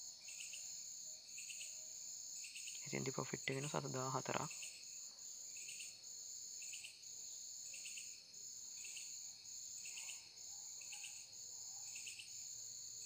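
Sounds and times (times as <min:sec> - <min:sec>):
higher insect trill: 0:00.0 - 0:13.0
insect chirps: 0:00.0 - 0:13.0.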